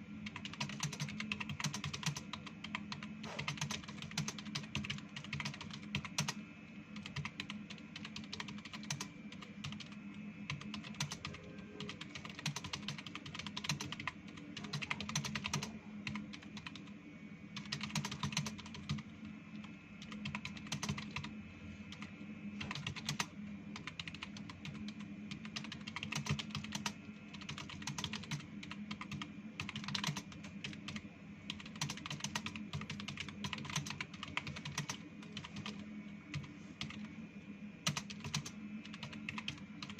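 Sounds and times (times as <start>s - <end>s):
fast keyboard typing: 0.2s - 16.9s, 17.6s - 37.1s, 37.8s - 39.9s.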